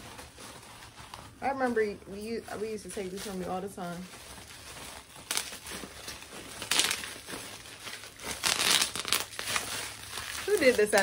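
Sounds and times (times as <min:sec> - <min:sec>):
bubble wrap popping: 0:00.0 - 0:11.0.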